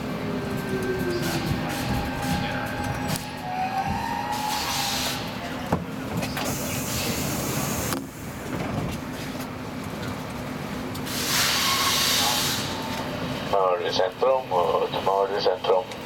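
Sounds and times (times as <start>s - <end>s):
subway train hum and electric whine: 0.0s - 16.0s.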